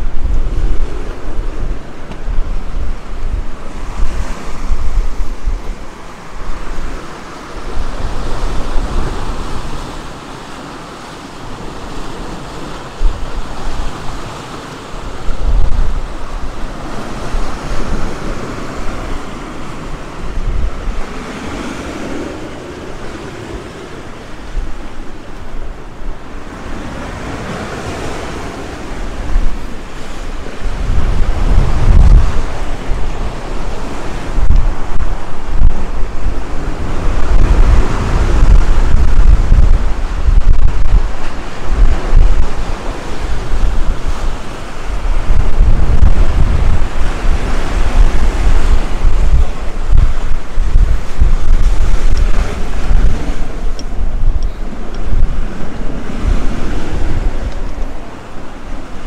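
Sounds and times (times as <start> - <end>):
sea surf breaking on beach: 0.0 - 59.0
wind buffeting microphone: 0.0 - 59.0.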